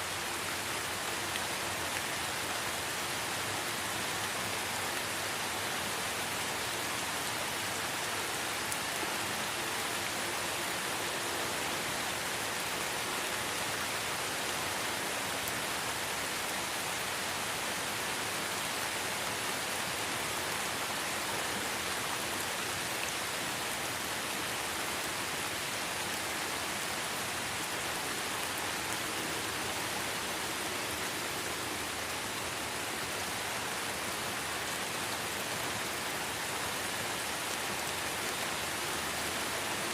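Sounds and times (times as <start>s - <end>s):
light rain in a forest: 0.0s - 39.9s.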